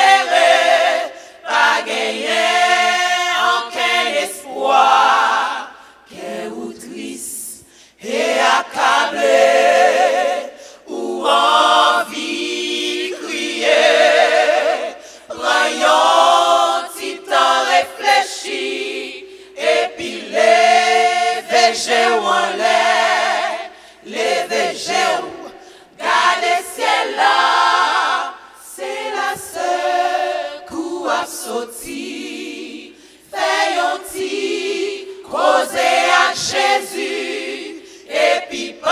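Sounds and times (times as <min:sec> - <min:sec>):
women's gospel choir singing: 0:00.0 - 0:38.9.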